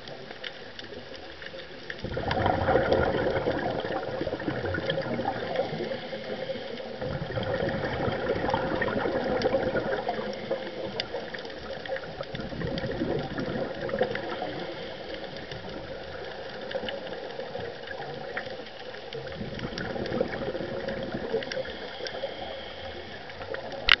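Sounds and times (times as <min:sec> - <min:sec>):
underwater breathing bubbles gurgling: 0:00.0 - 0:24.0.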